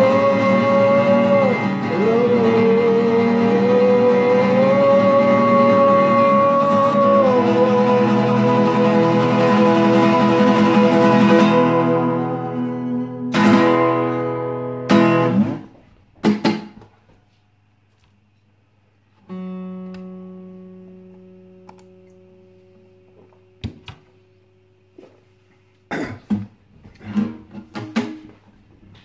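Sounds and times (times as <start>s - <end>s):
acoustic guitar strumming: 0.0s - 16.8s, 19.3s - 28.5s.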